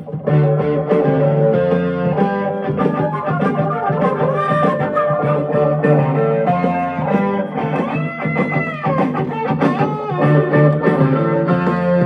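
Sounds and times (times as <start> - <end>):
electric guitar lead over band: 0.0 - 12.0.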